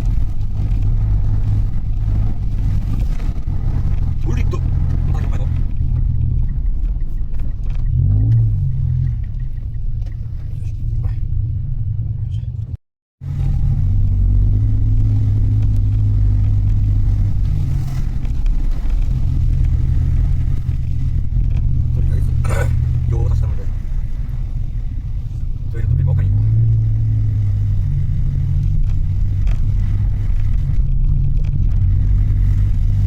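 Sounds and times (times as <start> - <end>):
van engine and road rumble: 0.0 - 33.0.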